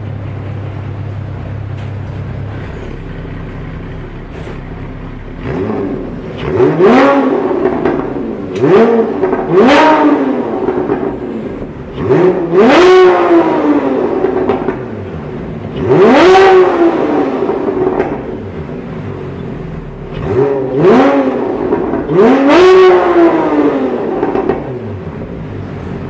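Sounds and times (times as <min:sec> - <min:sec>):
car engine revving from idle: 0:02.3 - 0:26.0.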